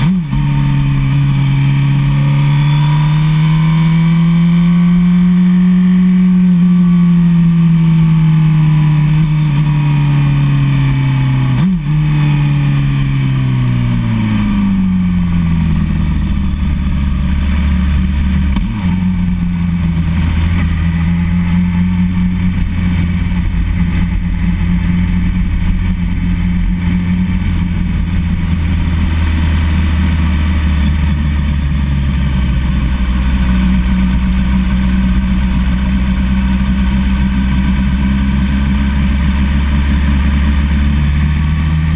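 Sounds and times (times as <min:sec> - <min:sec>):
motorcycle engine slowing: 0:00.0 - 0:41.9.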